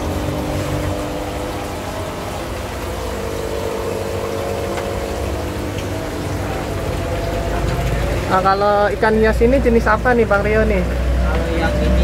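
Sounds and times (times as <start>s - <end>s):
air pumps humming: 0.0s - 12.0s
water bubbling in tanks: 0.0s - 12.0s.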